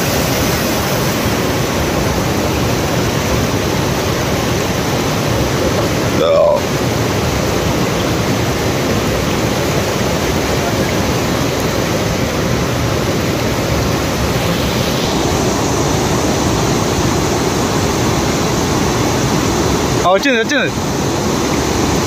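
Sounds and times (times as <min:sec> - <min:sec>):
river water pouring over a weir: 0:00.0 - 0:22.0.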